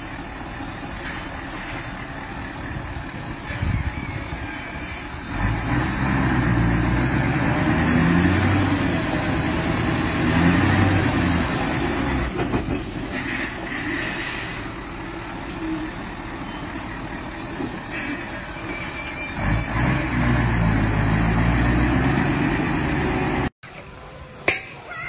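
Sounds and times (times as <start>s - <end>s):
truck engine running under load: 0.0s - 23.5s.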